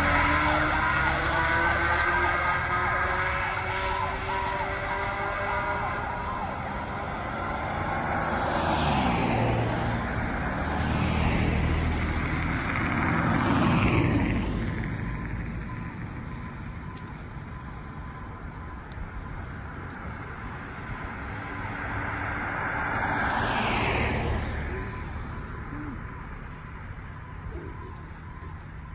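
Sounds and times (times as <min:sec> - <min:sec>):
cars driving past: 0:00.0 - 0:28.9
fire engine siren: 0:00.0 - 0:28.9.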